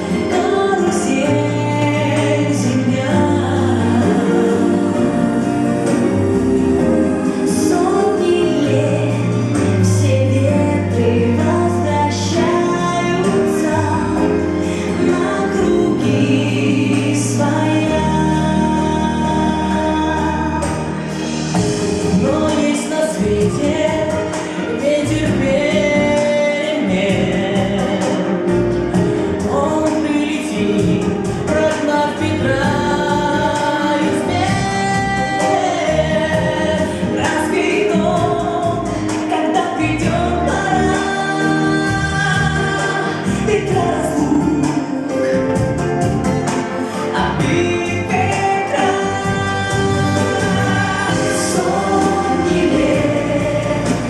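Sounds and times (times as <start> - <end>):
group singing: 0.0 - 54.0
instrumental backing with bass: 0.0 - 54.0.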